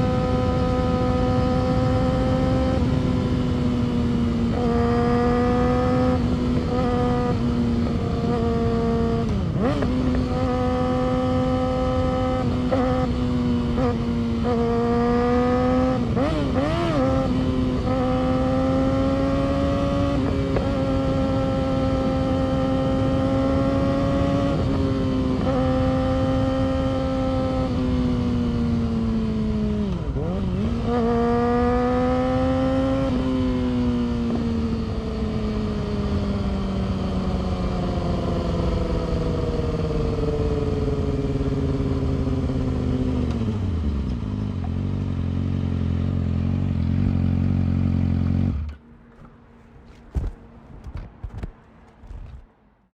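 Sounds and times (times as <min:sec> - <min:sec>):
motorcycle engine cruising: 0:00.0 - 0:52.6.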